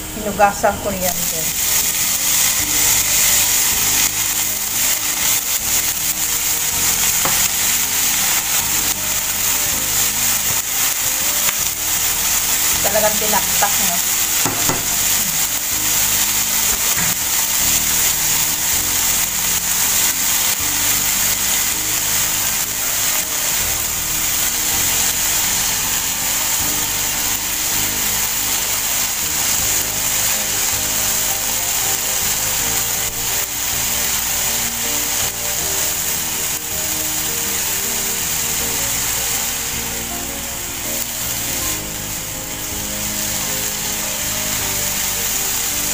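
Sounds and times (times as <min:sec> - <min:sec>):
background music: 0:00.0 - 0:45.9
herbs sizzling in oil: 0:00.0 - 0:45.9.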